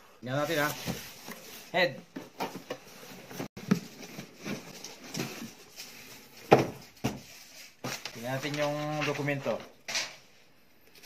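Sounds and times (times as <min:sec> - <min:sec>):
cardboard rustling and scraping: 0:00.5 - 0:10.1.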